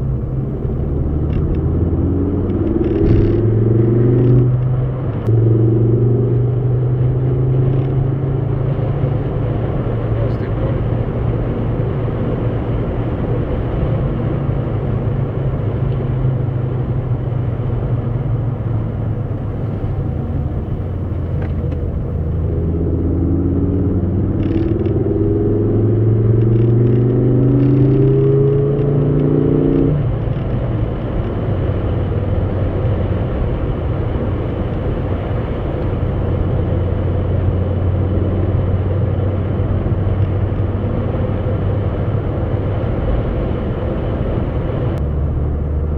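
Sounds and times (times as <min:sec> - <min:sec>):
vehicle engine droning: 0:00.0 - 0:45.9.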